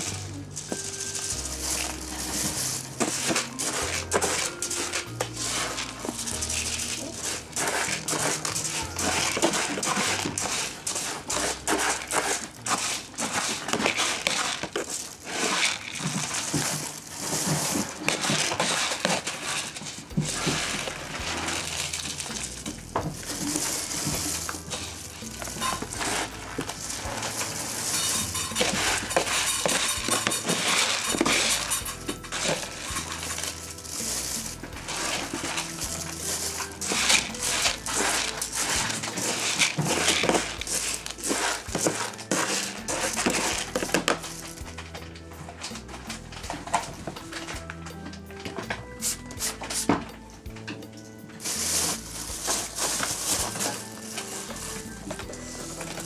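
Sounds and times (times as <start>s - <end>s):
background music: 0.0s - 56.0s
toy balls rattling on wooden floor: 0.0s - 56.0s.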